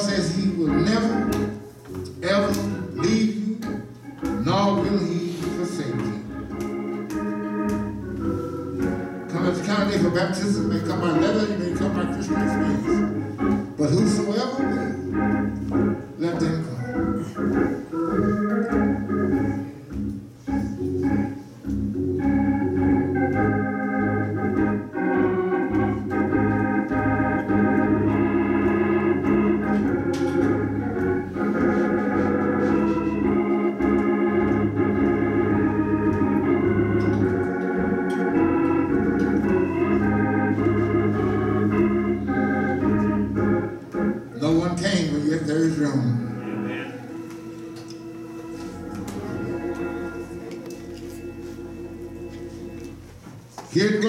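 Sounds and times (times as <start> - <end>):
organ playing sustained chords: 0.0 - 54.0.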